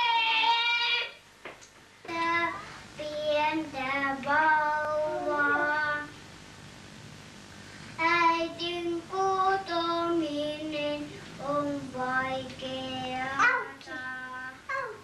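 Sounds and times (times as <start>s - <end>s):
small child singing: 0.0s - 1.2s, 2.1s - 6.2s, 8.0s - 15.0s.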